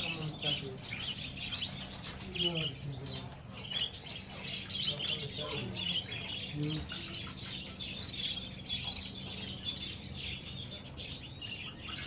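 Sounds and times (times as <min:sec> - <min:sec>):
finches chirping and twittering: 0:00.0 - 0:12.0.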